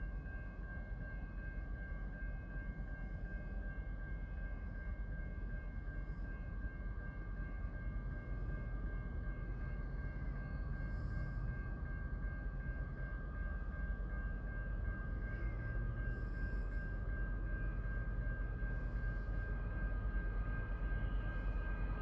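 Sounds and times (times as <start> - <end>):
distant train rumble: 0.0 - 22.0.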